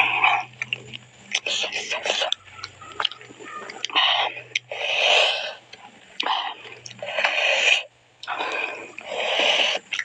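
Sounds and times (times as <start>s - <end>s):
chewing and sucking on food: 0.0s - 10.0s.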